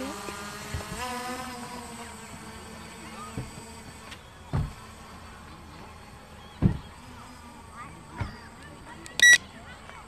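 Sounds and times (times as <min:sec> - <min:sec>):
drone motors buzzing: 0:00.0 - 0:09.4.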